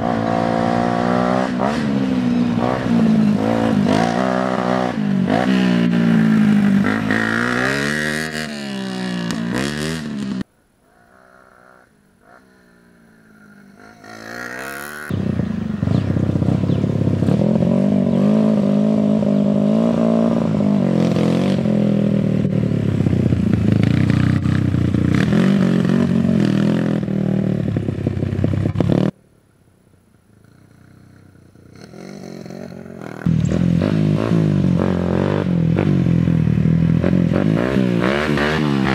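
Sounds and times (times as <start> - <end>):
approaching bike engine: 0.0 - 29.2, 30.2 - 38.9
dirt bike engines revving: 0.0 - 29.2, 30.3 - 38.9.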